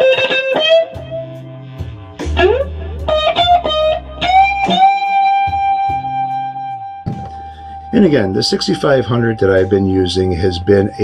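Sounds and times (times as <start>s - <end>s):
electric guitar lead: 0.0s - 10.6s
bass line: 1.0s - 4.8s, 5.5s - 11.0s.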